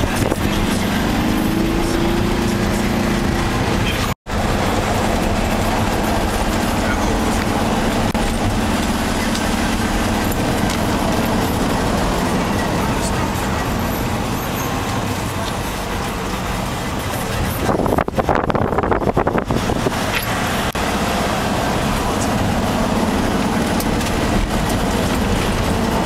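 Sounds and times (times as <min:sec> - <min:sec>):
ride vehicle rumbling: 0:00.0 - 0:26.0.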